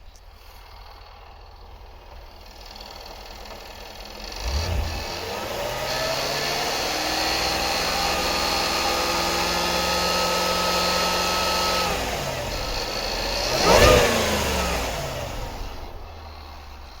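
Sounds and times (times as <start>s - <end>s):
car engine revving: 2.3s - 17.0s.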